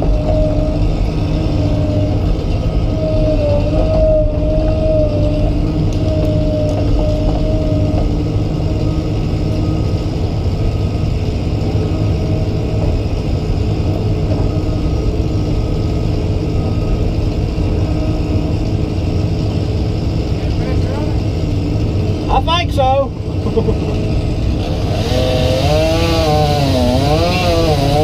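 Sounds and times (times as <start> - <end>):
excavator diesel engine running: 0.0 - 28.0
whining tone: 0.0 - 28.0.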